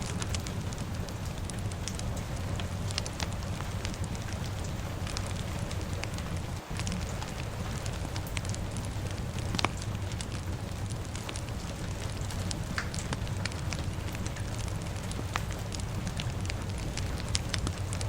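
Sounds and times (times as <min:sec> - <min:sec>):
fire crackling and popping: 0:00.0 - 0:18.0
rain rushing: 0:00.0 - 0:18.0.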